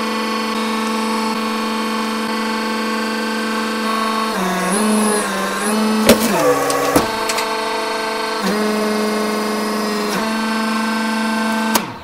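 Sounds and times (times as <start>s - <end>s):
hydraulic pump motor humming: 0.0s - 12.0s.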